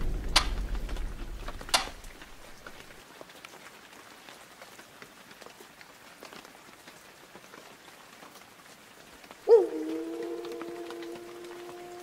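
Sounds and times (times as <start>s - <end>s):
light rain hiss: 0.0s - 12.0s
rain drop ticks: 0.0s - 12.0s.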